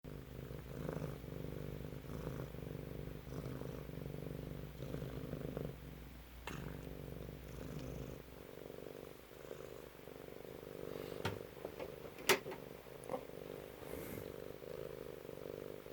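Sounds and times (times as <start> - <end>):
cat purring: 0.0 - 15.9.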